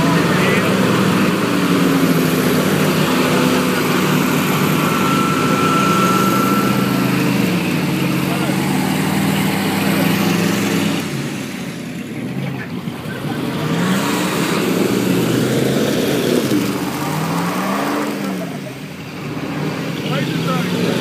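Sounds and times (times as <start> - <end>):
engine revving under load: 0.0 - 21.0.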